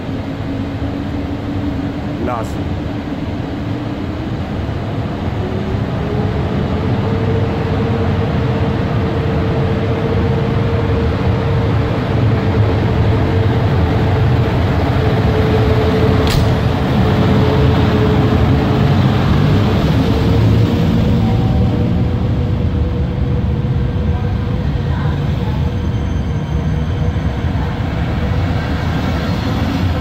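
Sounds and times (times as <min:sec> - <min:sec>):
electric locomotive rumbling and humming: 0:00.0 - 0:30.0.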